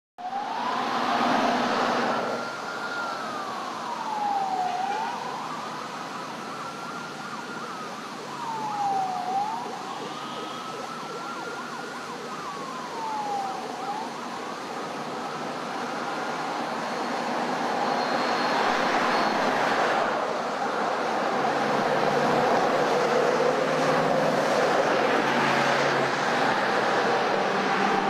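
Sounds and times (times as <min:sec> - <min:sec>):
fast sweeping siren: 0:00.2 - 0:28.0
slow wailing siren: 0:00.2 - 0:28.0.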